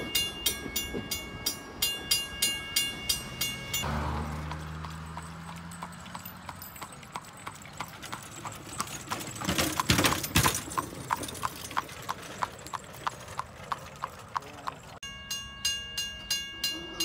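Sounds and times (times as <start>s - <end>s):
hooves clip-clopping on asphalt: 0.0s - 15.0s.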